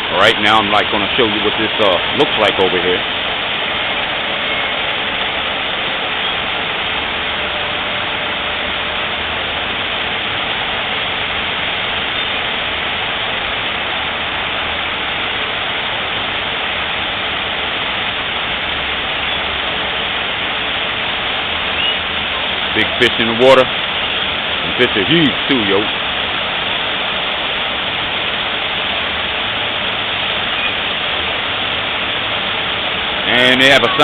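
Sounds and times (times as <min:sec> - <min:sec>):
waterfall pouring into pond: 0:00.0 - 0:34.0.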